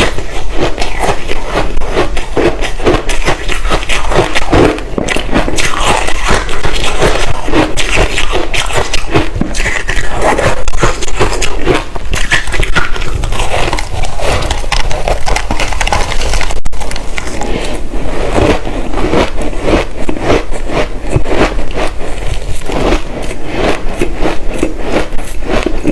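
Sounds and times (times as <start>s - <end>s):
chewing ice chunks: 0.0s - 25.9s.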